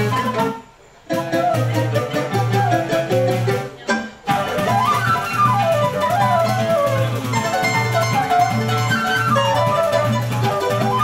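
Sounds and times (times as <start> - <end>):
acoustic guitar: 0.0 - 11.0
flute runs: 0.0 - 11.0
mandolin: 0.0 - 11.0
plucked bass line: 1.1 - 11.0.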